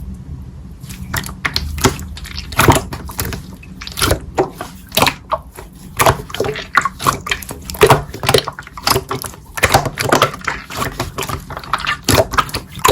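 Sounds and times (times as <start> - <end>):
slime squelching: 0.8 - 12.9.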